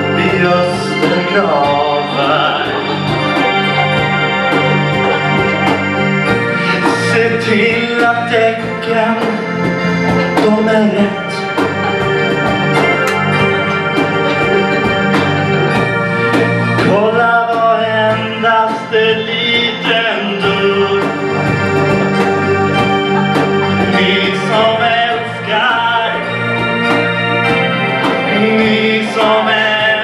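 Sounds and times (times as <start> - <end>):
person singing into a microphone: 0.0 - 16.0, 16.8 - 27.1, 27.9 - 30.0
bass line: 0.0 - 30.0
drum kit with cymbals: 0.0 - 30.0
keyboard chords: 0.0 - 30.0.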